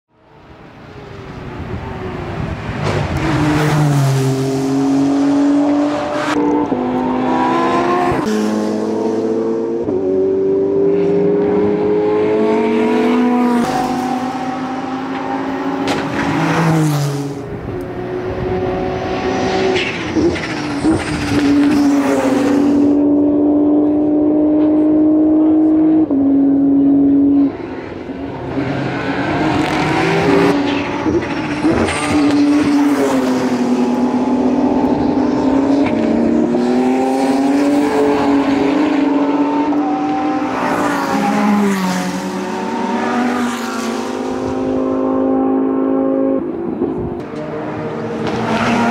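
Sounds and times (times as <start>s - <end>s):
race cars passing at speed: 0.2s - 48.9s.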